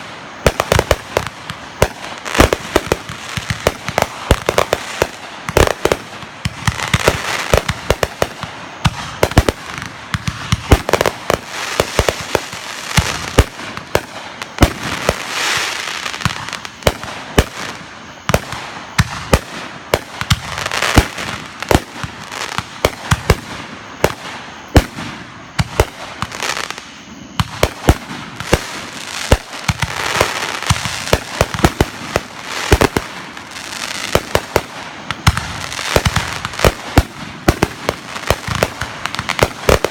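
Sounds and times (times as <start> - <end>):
fireworks bangs: 0.0 - 39.9
fireworks crackle and hiss: 0.0 - 39.9.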